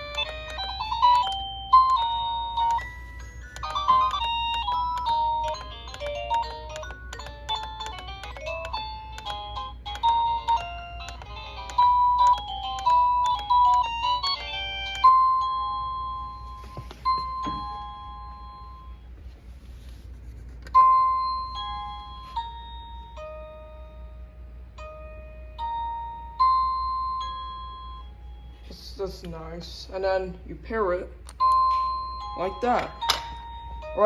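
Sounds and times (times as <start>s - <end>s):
electronic doorbell chime: 0.0s - 19.1s, 20.8s - 28.7s, 31.4s - 34.0s.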